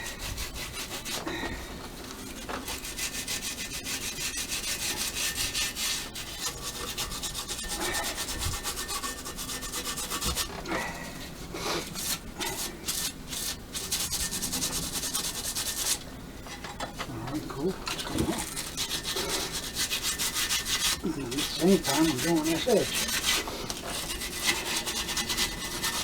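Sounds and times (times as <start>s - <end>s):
sandpaper rubbing on metal: 0.0s - 1.2s, 2.3s - 10.6s, 11.7s - 16.0s, 17.8s - 26.0s.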